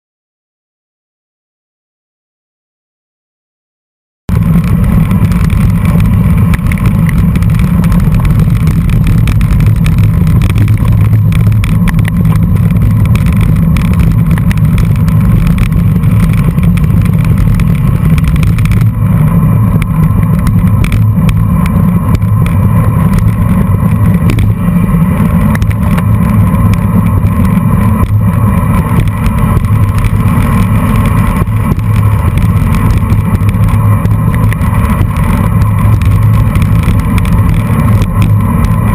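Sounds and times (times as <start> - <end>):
bicycle tyre and road noise: 4.3 - 38.9
wind buffeting microphone: 4.3 - 38.9.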